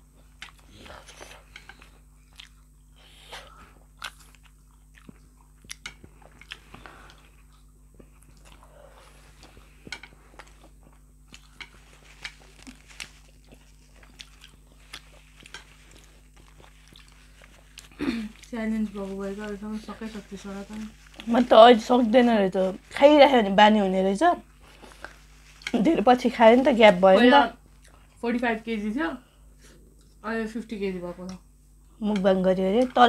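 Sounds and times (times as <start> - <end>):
people chewing food: 0.0 - 28.2, 29.3 - 30.2.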